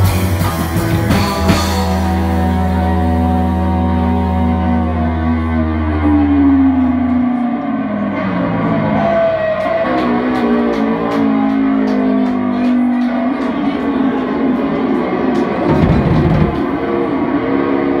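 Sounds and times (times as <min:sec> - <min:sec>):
electric guitar band music: 0:00.0 - 0:18.0
sliding guitar notes: 0:00.0 - 0:18.0.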